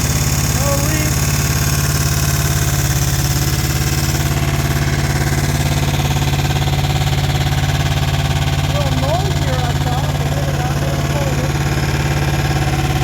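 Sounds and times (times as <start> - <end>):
mower engine running: 0.0 - 13.0.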